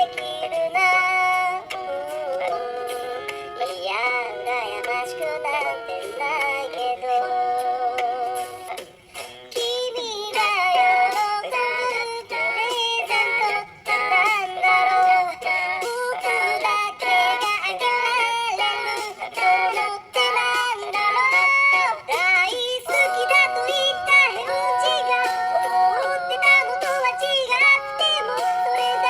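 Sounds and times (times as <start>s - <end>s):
pop ballad sung in cat meows: 0.0s - 8.8s, 9.6s - 29.0s.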